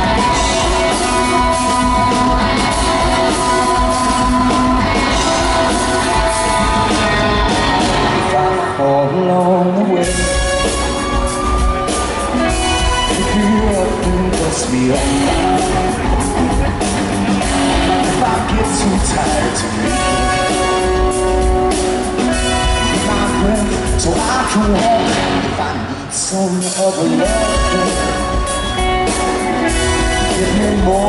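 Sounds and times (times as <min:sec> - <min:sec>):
man singing: 0:00.0 - 0:11.1, 0:12.3 - 0:21.2, 0:22.3 - 0:31.0
electric guitar: 0:00.0 - 0:31.0
rock band playing live: 0:00.0 - 0:31.0.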